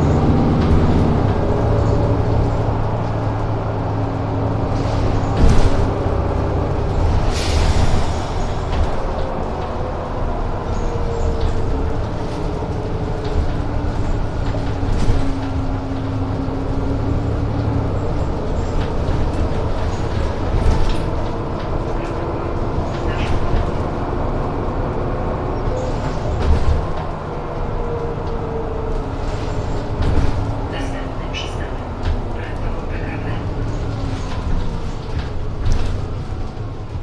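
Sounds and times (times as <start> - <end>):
bus engine and road rumble: 0.0 - 37.0.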